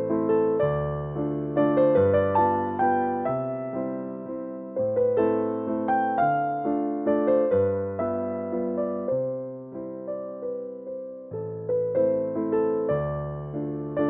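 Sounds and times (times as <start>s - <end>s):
slow electric piano melody: 0.0s - 14.0s.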